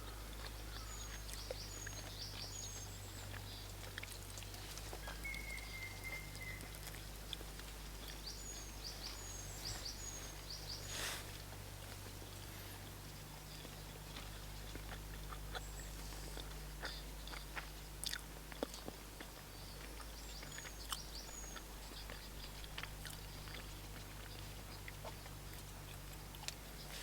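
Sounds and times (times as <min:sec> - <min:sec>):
birds chirping faintly: 0:00.0 - 0:27.0
person chewing crunchy food: 0:00.0 - 0:27.0.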